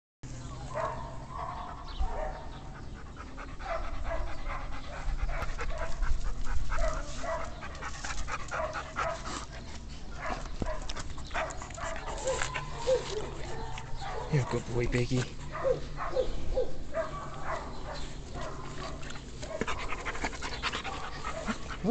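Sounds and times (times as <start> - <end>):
dog panting: 0.8 - 21.9.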